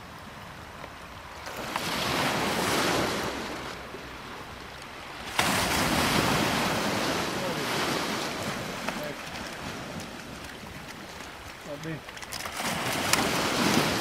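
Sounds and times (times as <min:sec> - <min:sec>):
sea waves breaking on beach: 0:01.1 - 0:14.0.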